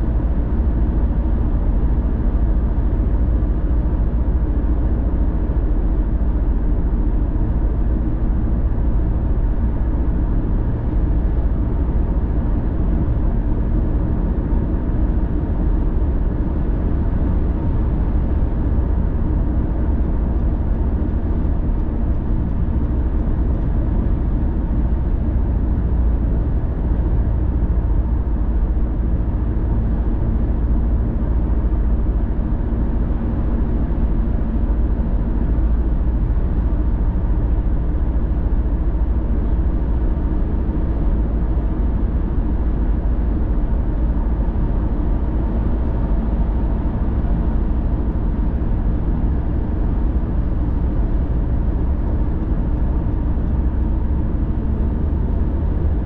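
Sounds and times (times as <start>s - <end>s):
car driving with engine and tyre rumble: 0.0s - 56.0s.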